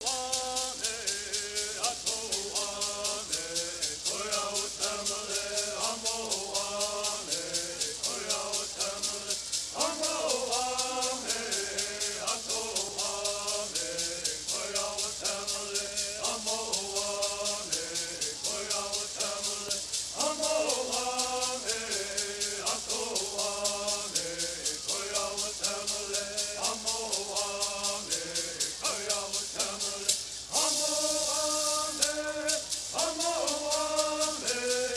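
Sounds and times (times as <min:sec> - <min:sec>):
gourd rattles shaken: 0:00.0 - 0:34.9
group of singers chanting: 0:00.0 - 0:34.9.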